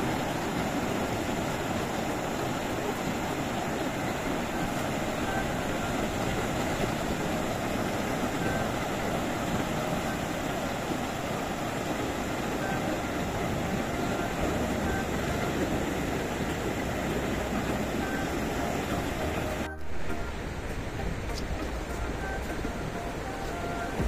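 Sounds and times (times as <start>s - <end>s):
small surf breaking: 0.0s - 24.0s
wind rumbling on microphone: 0.0s - 24.0s.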